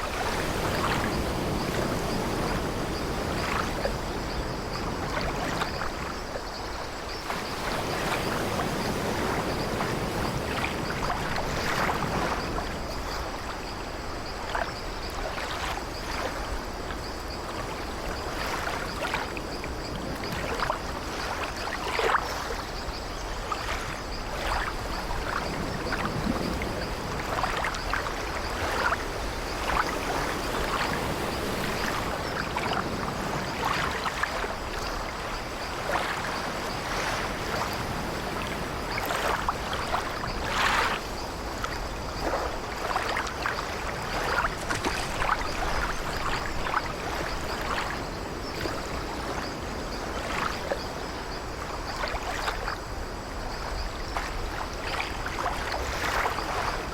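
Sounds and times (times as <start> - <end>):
water lapping against wooden ship: 0.0 - 56.9.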